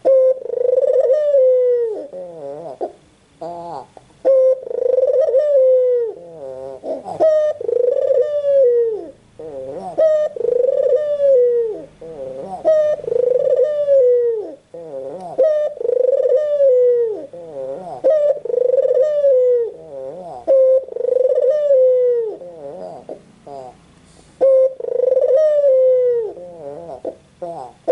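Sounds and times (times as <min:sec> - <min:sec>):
dove cooing: 0:00.0 - 0:27.9.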